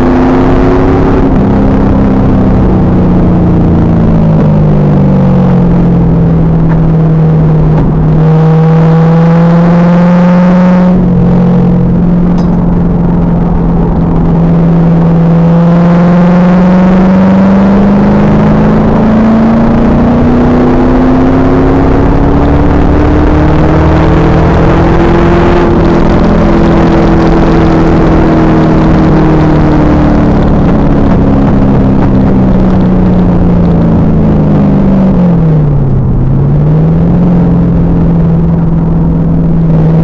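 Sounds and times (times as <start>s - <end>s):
car engine under load: 0.0s - 40.0s
road noise: 0.0s - 40.0s
wind noise: 0.0s - 40.0s.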